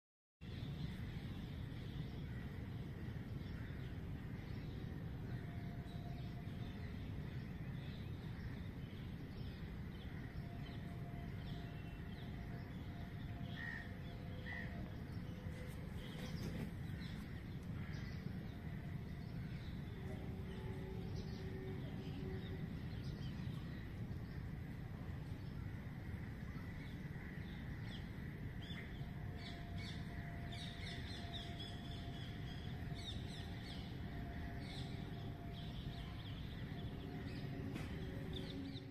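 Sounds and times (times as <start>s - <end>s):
low background noise: 0.4s - 38.9s.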